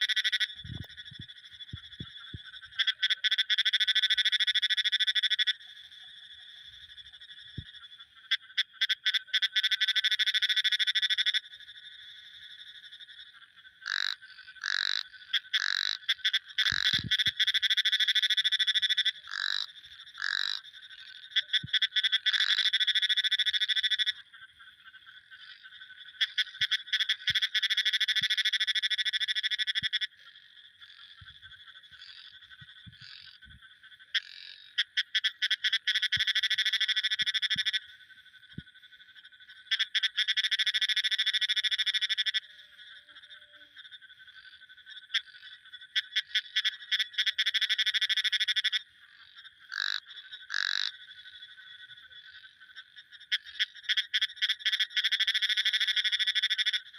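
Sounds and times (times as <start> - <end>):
frogs trilling: 0.0 - 56.9
high-pitched frog chorus: 0.0 - 56.9.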